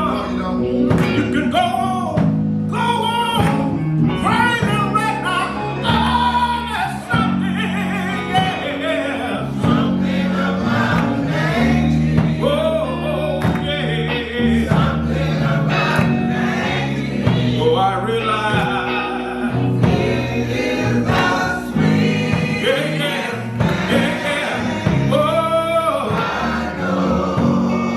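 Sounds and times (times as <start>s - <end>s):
gospel choir singing: 0.0s - 2.2s, 2.8s - 27.9s
instrumental accompaniment: 0.0s - 27.9s.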